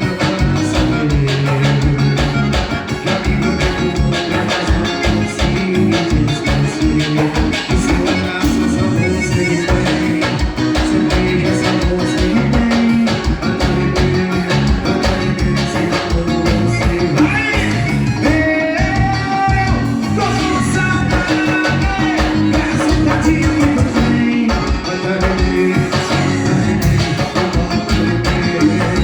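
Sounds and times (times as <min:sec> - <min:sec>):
person singing: 0:00.0 - 0:29.0
song with fast steady beat: 0:00.0 - 0:29.0.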